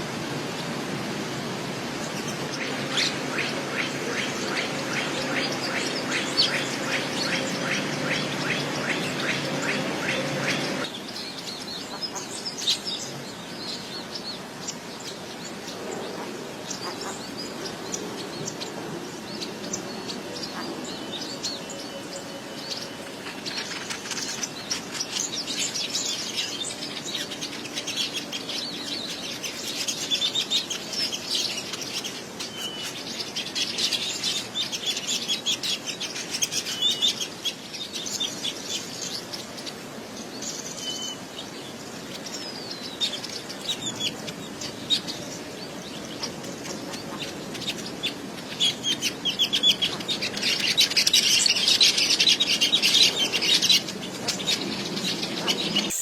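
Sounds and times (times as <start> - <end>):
small birds chattering and chirping: 0.0 - 56.0.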